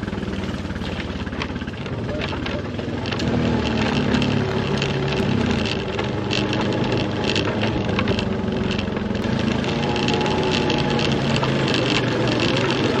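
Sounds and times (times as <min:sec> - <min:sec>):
clattering and knocking: 0:00.0 - 0:13.0
off-road vehicle engine running: 0:00.0 - 0:13.0.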